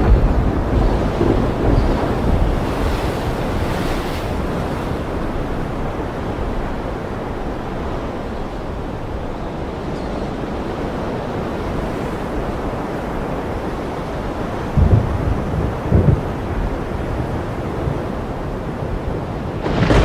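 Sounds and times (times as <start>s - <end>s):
ocean waves washing in: 0.0s - 20.0s.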